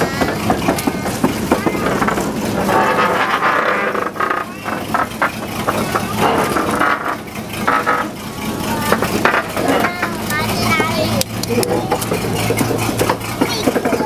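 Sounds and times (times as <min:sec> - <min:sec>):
small locomotive running: 0:00.0 - 0:14.0.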